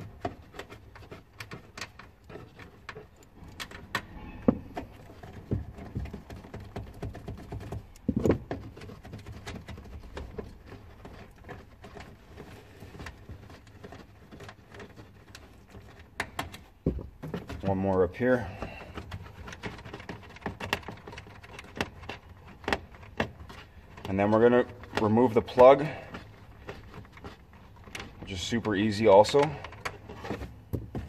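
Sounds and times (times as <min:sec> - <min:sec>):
hands handling small metal nuts: 0:00.0 - 0:31.0.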